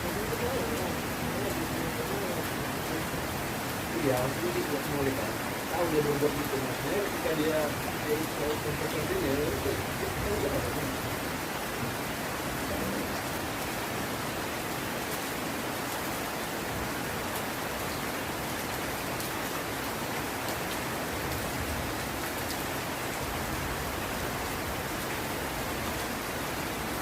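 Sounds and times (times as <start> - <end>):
heavy rain hissing: 0.0 - 27.0.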